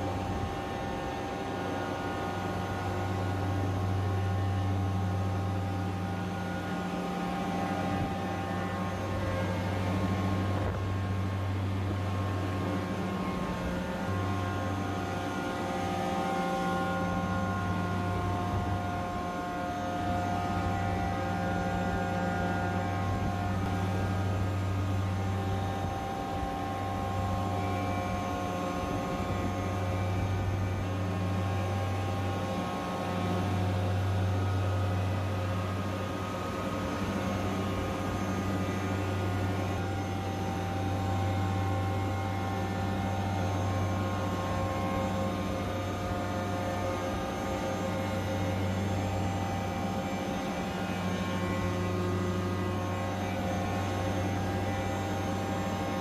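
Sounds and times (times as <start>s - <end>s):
chiller low hum: 0.0s - 56.0s
compressor whining tones: 0.0s - 56.0s.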